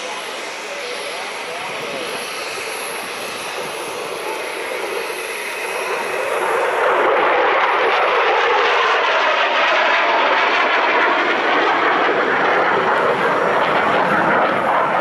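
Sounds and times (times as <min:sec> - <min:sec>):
jet engine rushing: 0:00.0 - 0:15.0.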